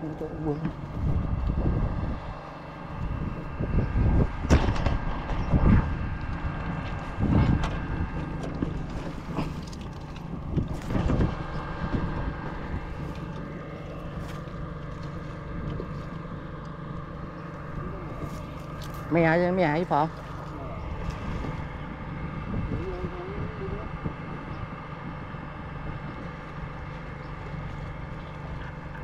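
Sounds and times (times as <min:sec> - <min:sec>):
steady low hum: 0:00.0 - 0:29.0
wind buffeting microphone: 0:00.0 - 0:29.0.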